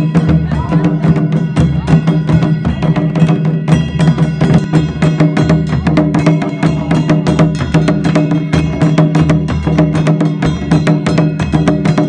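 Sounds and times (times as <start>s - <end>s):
barrel drum beating: 0.0s - 12.0s.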